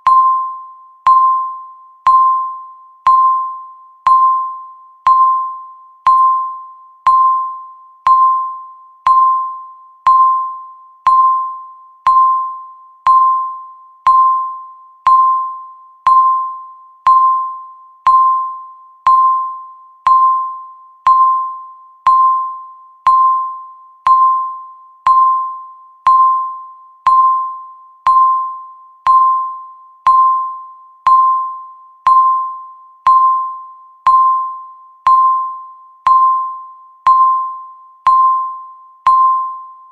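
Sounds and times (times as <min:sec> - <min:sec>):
electronic timer beep: 0:00.0 - 0:39.9.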